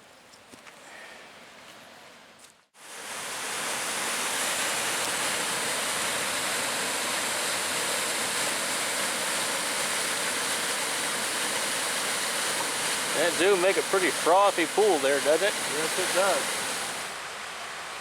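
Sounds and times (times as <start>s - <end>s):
water pouring over waterfall: 2.8s - 18.0s.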